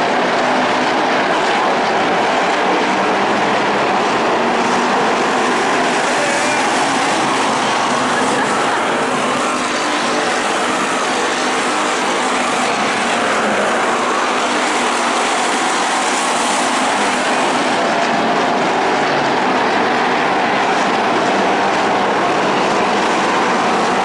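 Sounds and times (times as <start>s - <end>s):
stock car engines droning: 0.0s - 24.0s.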